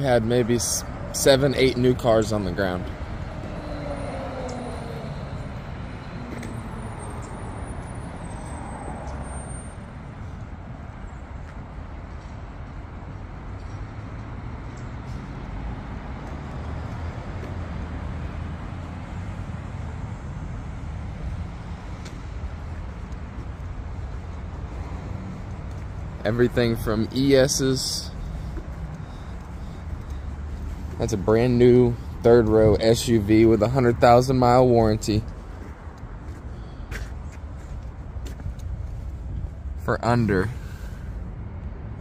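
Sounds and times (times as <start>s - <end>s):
road traffic rumble: 0.0s - 42.0s
vehicle passing by: 0.1s - 10.4s, 13.8s - 42.0s.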